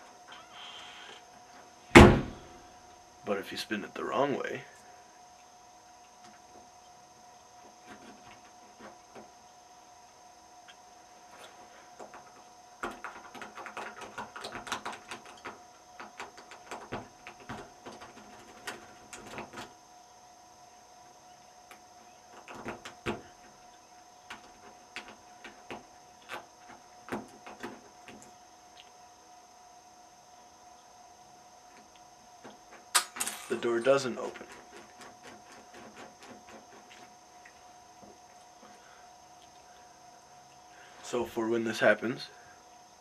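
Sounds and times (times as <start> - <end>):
faint high hum: 0.0 - 43.0.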